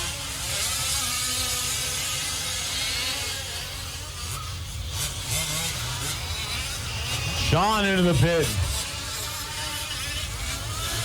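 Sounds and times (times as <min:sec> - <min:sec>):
small two-stroke engines buzzing: 0:00.0 - 0:11.0.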